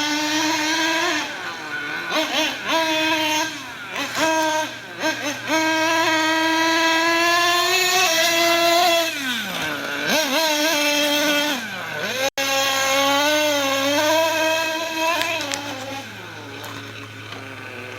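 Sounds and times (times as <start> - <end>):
motor running with high-pitched whine: 0.0 - 17.9.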